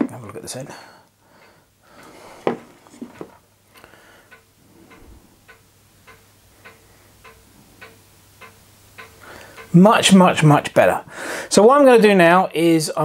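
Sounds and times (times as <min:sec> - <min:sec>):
steady ringing ticks: 0:00.7 - 0:02.1, 0:03.4 - 0:13.0.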